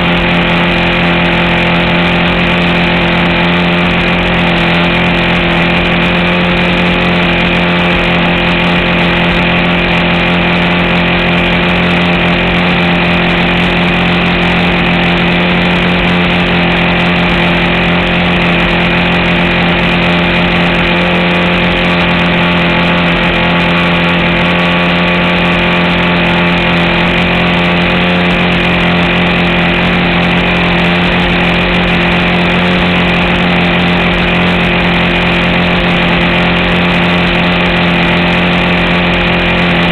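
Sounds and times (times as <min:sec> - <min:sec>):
model airplane motor and propeller: 0:00.0 - 0:39.9.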